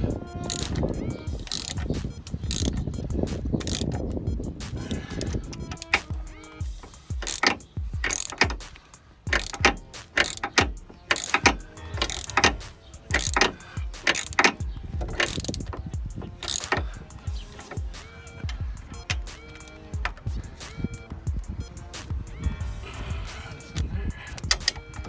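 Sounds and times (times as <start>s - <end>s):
hand ratchet clicking: 0.0s - 22.5s, 23.2s - 25.0s.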